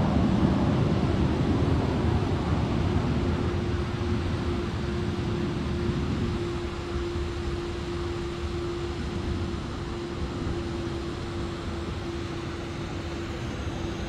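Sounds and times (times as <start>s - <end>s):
distant jet aircraft engine: 0.0s - 14.0s.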